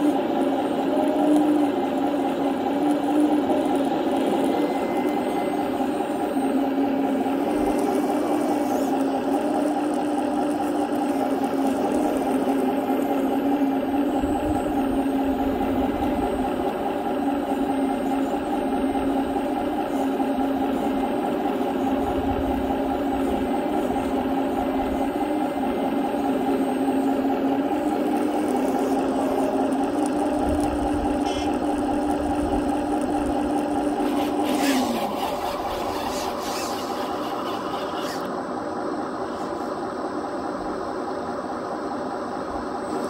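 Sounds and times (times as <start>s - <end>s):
small electric motor whining: 0.0s - 40.0s.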